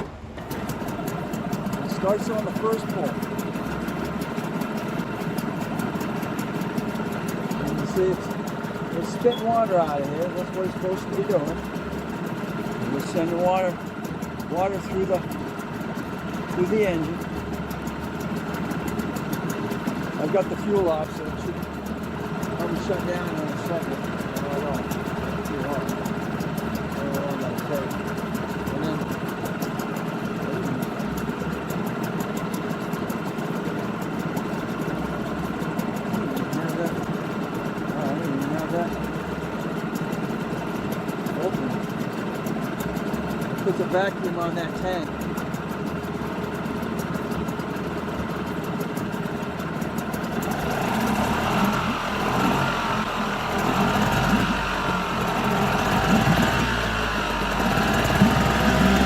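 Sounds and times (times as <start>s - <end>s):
outboard motor idling: 0.0s - 59.0s.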